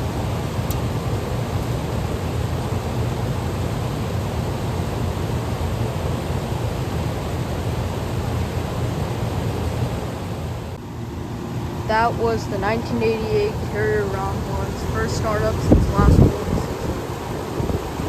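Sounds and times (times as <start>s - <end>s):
compressor low hum: 0.0s - 18.0s
condenser fan air rush: 0.0s - 18.0s.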